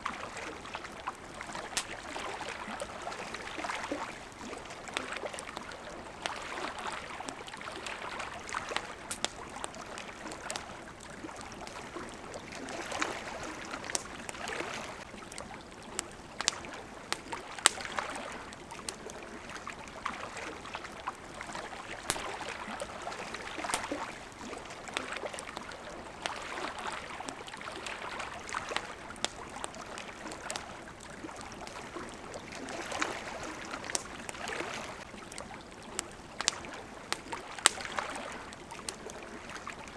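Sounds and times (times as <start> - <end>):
campfire crackling: 0.0 - 39.9
water lapping: 0.0 - 39.9.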